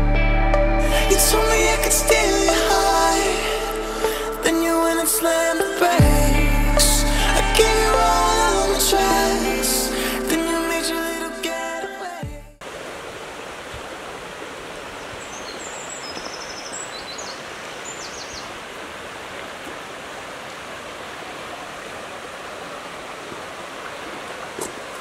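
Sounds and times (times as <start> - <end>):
stream and waterfall rushing: 1.0 - 12.0, 12.6 - 25.0.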